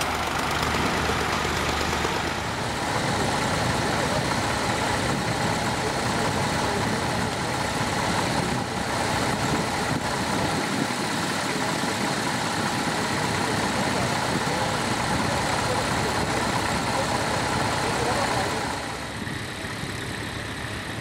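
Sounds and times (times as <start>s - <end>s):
tractor engines running: 0.0s - 21.0s.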